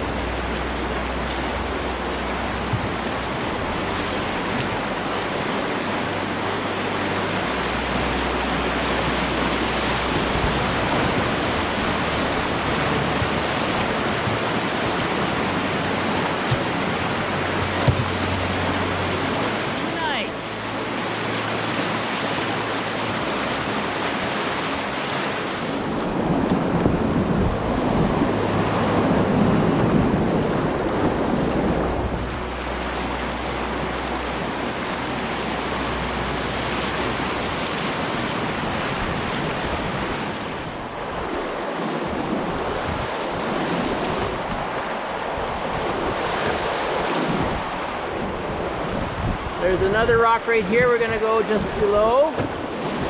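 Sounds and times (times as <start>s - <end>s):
rushing river water: 0.0s - 53.0s
wind buffeting microphone: 0.0s - 53.0s.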